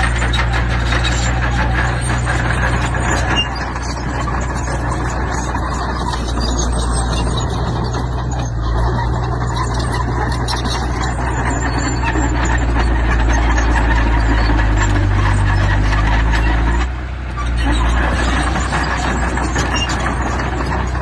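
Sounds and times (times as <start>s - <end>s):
clatter of metal and stone: 0.0s - 21.0s
diesel construction machinery running: 0.0s - 21.0s.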